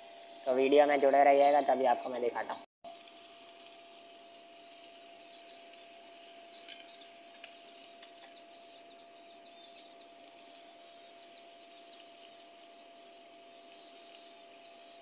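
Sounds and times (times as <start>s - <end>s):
seed husks trickling: 0.0s - 15.0s.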